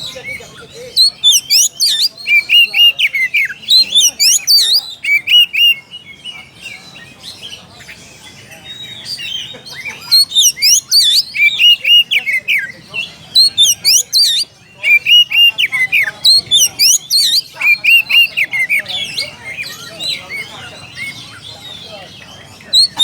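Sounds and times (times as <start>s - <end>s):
magpie-robin whistled song: 0.0s - 23.0s.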